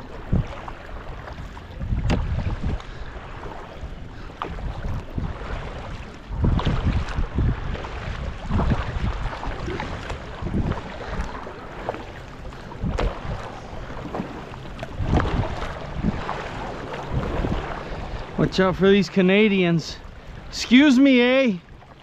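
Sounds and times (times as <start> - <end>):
wind noise on microphone: 0.0 - 18.8
kayak paddle strokes in water: 0.0 - 22.0.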